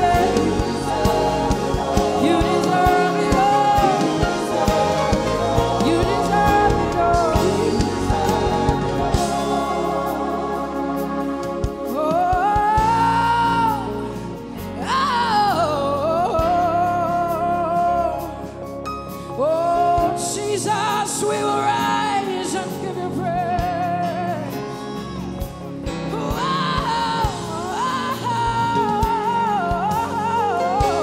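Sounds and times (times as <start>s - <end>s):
woman singing into a microphone: 0.0s - 10.2s, 11.9s - 18.6s, 19.3s - 25.2s, 26.0s - 31.0s
band playing gospel music: 0.0s - 31.0s.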